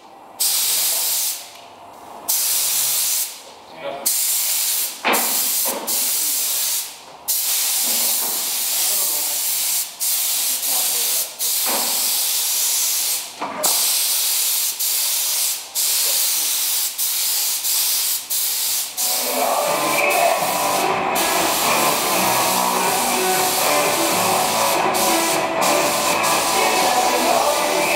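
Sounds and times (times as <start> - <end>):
spray gun hissing: 4.1 - 27.9.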